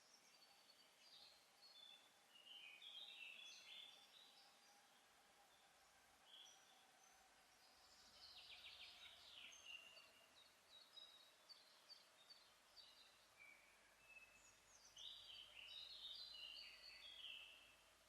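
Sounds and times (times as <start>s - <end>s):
low steady hiss: 0.0s - 18.0s
songbirds singing: 0.0s - 18.0s.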